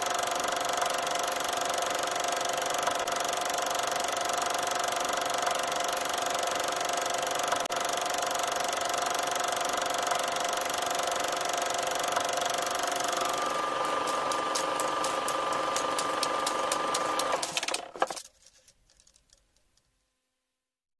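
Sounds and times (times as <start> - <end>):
small machine whirring and humming: 0.0 - 18.3
rapid regular clicking: 0.0 - 19.9.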